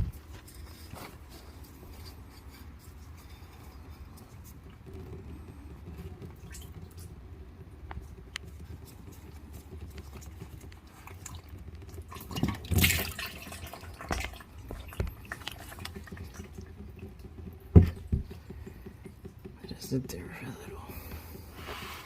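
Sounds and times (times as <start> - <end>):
tools scraping and knocking: 0.0 - 19.6
oil trickling and dripping: 0.2 - 20.0.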